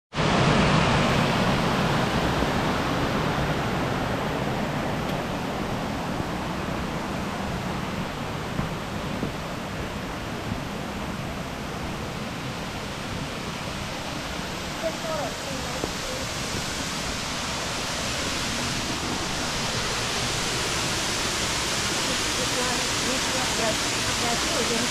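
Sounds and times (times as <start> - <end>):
waterfall rushing over rocks: 0.1 - 24.9.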